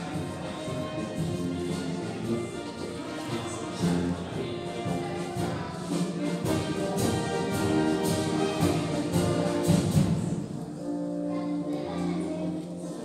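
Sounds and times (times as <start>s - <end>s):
orchestral music with brass: 0.0s - 13.0s.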